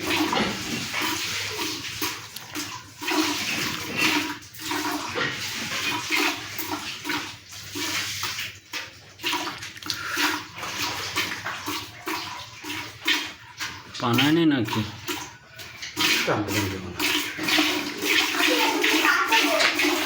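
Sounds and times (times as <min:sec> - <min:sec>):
milk squirting into a container: 0:00.0 - 0:20.0.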